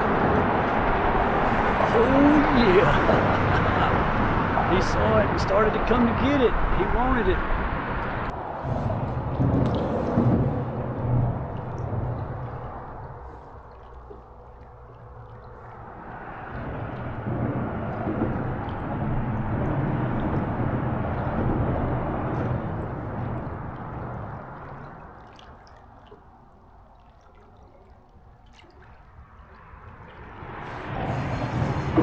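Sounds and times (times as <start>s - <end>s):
boat motor hum: 0.0s - 32.0s
water rushing along a hull: 0.0s - 32.0s.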